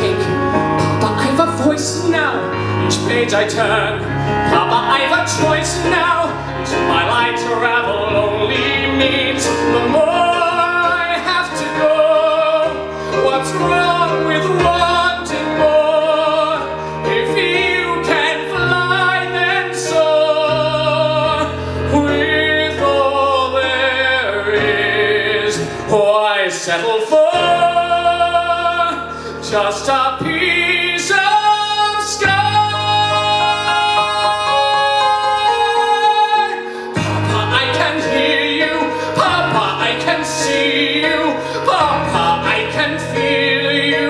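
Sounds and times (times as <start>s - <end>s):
instrumental accompaniment: 0.0s - 44.0s
man singing a ballad: 0.0s - 44.0s.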